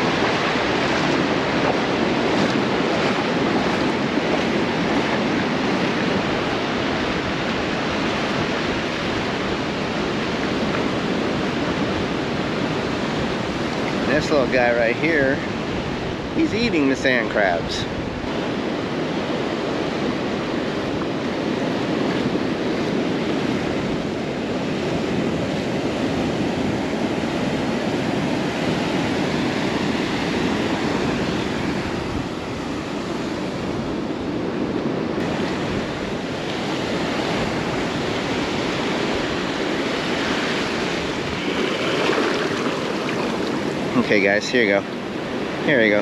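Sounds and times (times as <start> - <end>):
small waves breaking on sand: 0.0 - 46.0.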